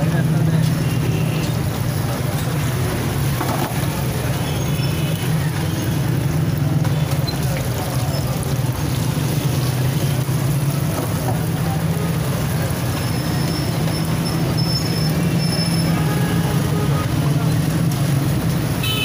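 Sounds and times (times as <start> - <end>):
traffic low hum: 0.0 - 19.0.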